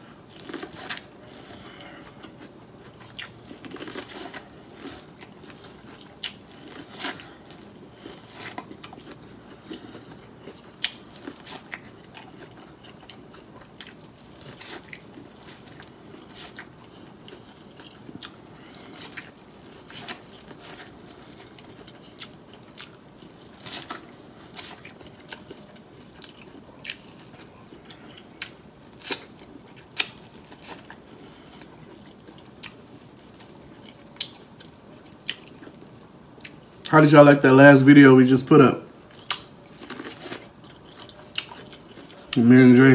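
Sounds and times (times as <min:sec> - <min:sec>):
corn on the cob crunching: 0:00.0 - 0:36.6, 0:39.1 - 0:42.9.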